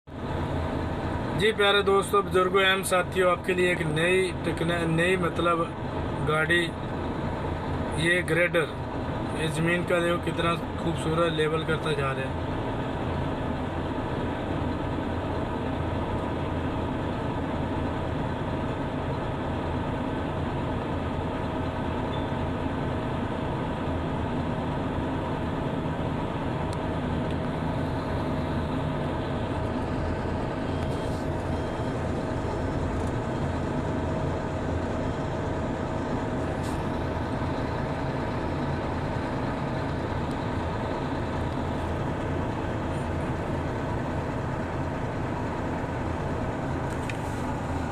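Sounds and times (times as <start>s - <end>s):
diesel engine running: 0.1s - 47.9s.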